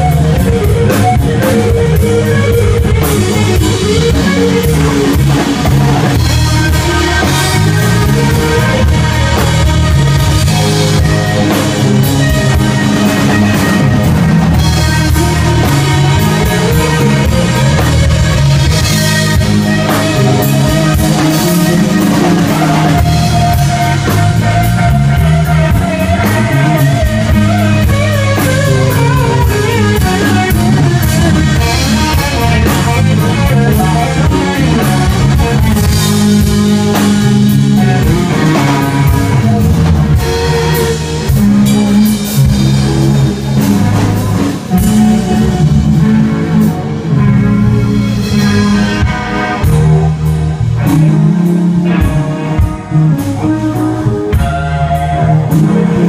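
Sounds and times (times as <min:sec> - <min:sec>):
drum kit: 0:00.0 - 0:56.0
electric guitar lead lines: 0:00.0 - 0:56.0.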